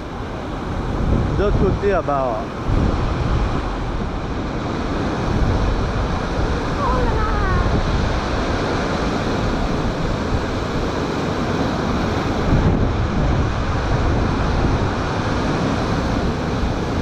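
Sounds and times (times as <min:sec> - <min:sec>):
storm surf breaking on shore: 0:00.0 - 0:17.0
wind buffeting microphone: 0:00.0 - 0:17.0.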